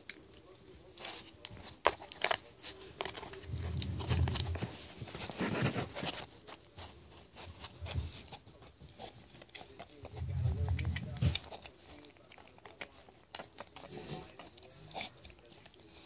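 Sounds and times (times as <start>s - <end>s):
pig smacking and chewing: 0.0s - 16.0s.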